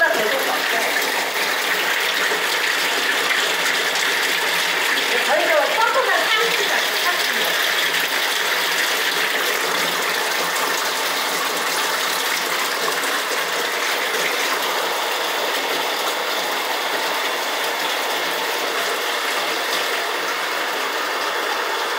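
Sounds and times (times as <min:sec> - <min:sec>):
rushing water: 0:00.0 - 0:21.9.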